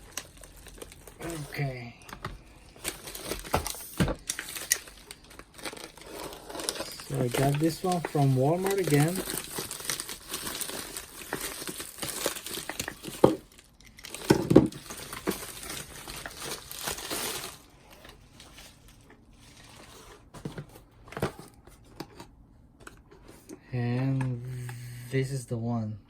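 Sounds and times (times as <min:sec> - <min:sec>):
plastic packaging crinkling: 0:00.0 - 0:22.2.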